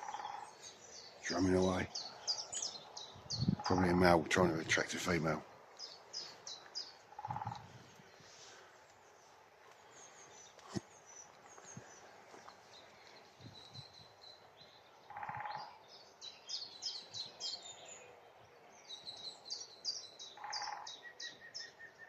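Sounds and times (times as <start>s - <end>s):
songbirds singing: 0.0s - 22.0s.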